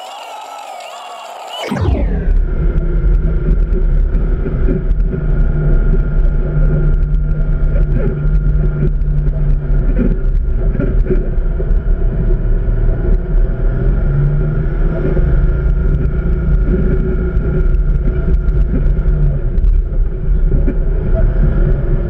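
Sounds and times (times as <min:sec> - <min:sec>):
diesel engine droning: 0:00.9 - 0:22.0.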